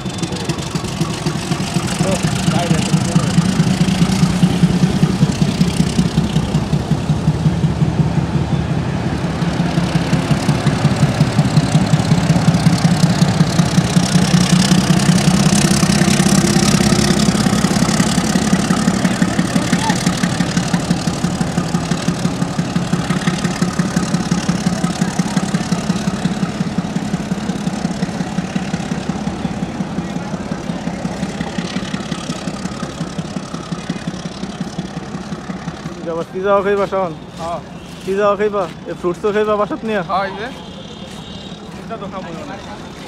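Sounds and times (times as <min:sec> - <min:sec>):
diesel locomotive engine throbbing: 0:00.0 - 0:43.0.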